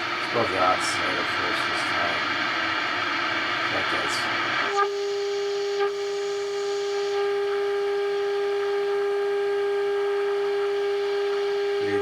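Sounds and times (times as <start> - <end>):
radio test tone: 0.0 - 12.0.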